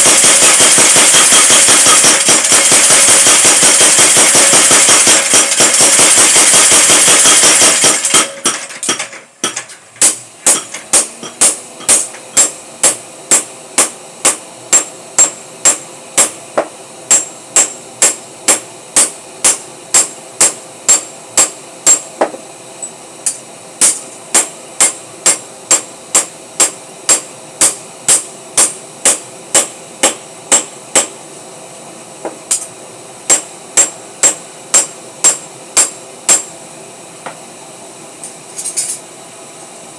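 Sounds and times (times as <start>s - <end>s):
power hammer striking metal: 0.0s - 22.4s, 23.2s - 31.2s, 33.3s - 36.5s.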